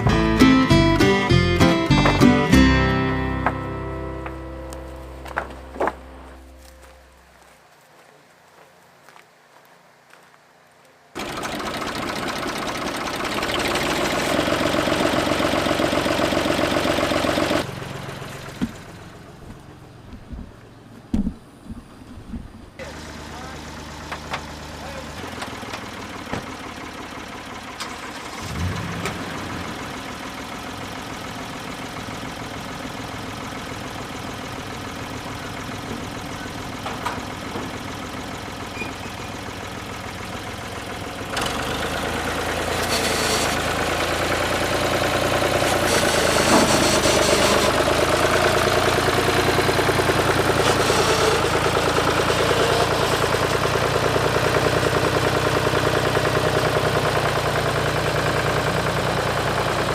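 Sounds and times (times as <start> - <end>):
gas engine running: 11.2 - 59.9.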